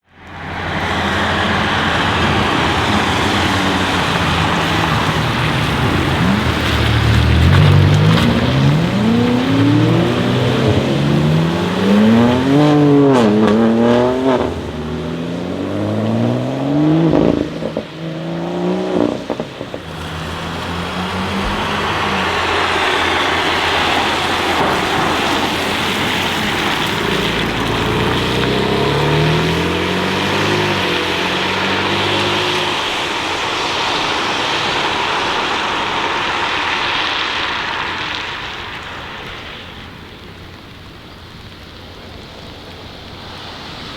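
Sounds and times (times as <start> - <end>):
car engine revving: 0.0 - 43.9
exhaust crackles: 0.0 - 43.9
rushing noise: 0.0 - 43.9.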